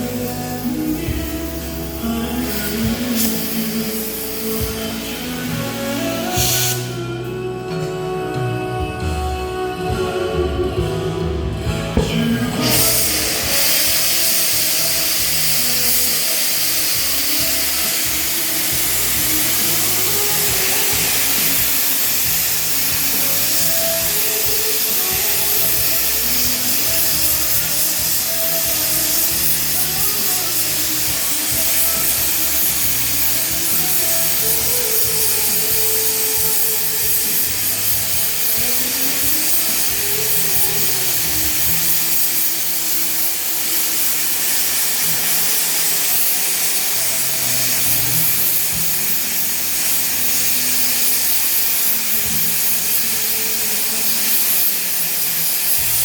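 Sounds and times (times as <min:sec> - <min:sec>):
background music: 0:00.0 - 0:56.0
gas torch hissing: 0:00.0 - 0:56.0.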